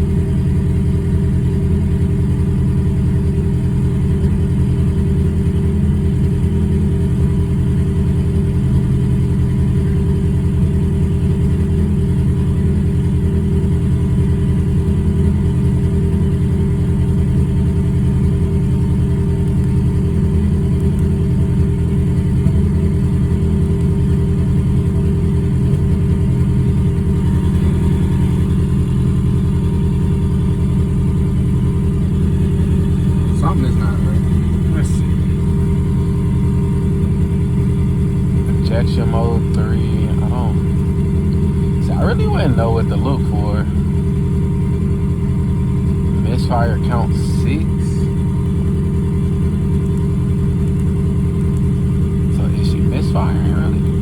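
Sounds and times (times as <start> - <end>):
car engine running steadily: 0.0 - 54.0.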